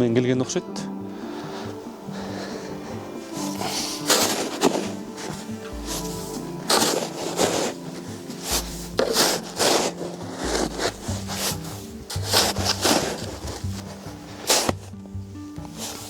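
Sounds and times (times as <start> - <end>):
soft background music: 0.0 - 16.0
footsteps crunching through snow: 1.6 - 16.0.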